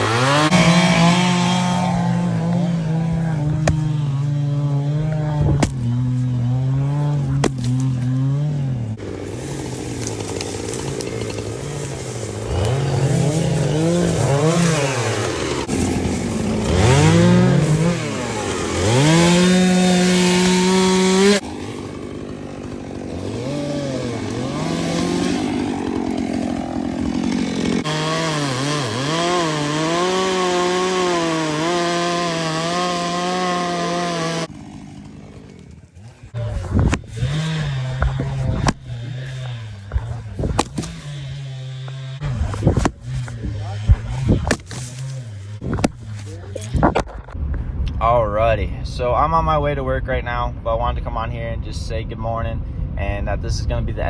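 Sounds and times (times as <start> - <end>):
chainsaw cutting wood: 0.0 - 47.4.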